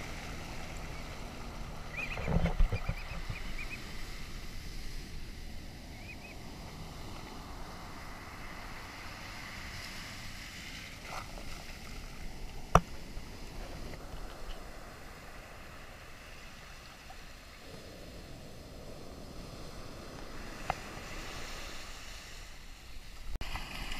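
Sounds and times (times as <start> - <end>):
wind on microphone: 0.0 - 23.2
surf breaking on beach: 0.0 - 23.9.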